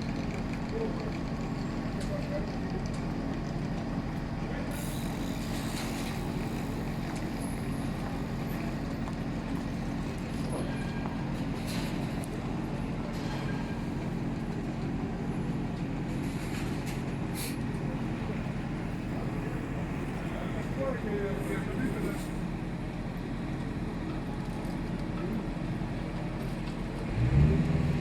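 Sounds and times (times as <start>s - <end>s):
heavy vehicle engine running: 0.0s - 28.0s.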